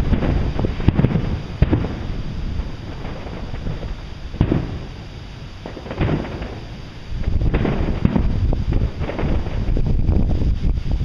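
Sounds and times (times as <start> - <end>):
firework shells bursting: 0.0 - 10.8
wind rumbling on microphone: 0.0 - 11.0.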